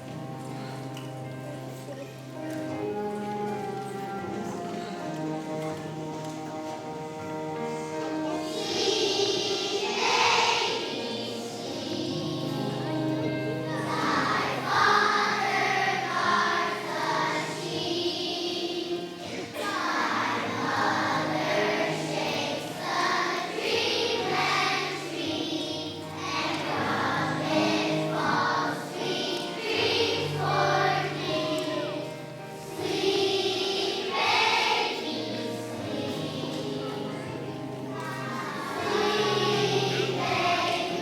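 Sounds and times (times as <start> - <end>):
children's choir singing: 0.0 - 41.0
instrumental accompaniment: 0.0 - 41.0.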